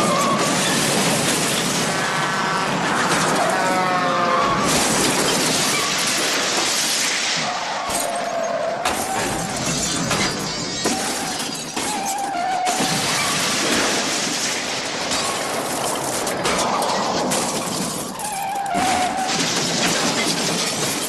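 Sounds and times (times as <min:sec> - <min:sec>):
glass shattering crash: 0:00.0 - 0:02.1, 0:04.6 - 0:21.0.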